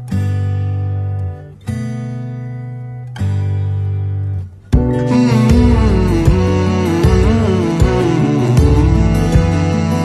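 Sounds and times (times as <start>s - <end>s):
guitar music with beat: 0.0s - 10.0s.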